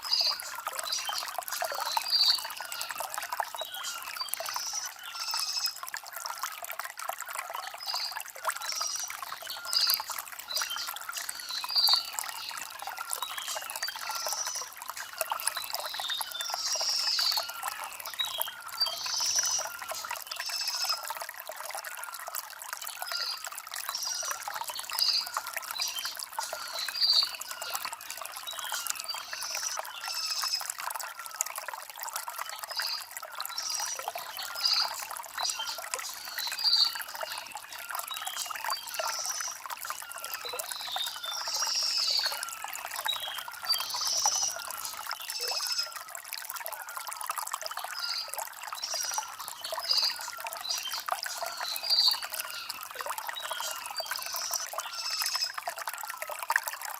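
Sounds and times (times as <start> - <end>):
stream trickling over stones: 0.0 - 56.9.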